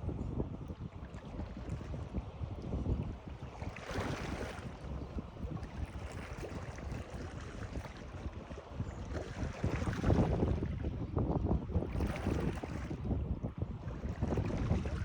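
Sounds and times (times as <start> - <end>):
wind on microphone: 0.0 - 15.0
water splashing and lapping: 0.7 - 15.0
rush of water: 0.9 - 11.0, 11.8 - 13.1, 13.7 - 15.0.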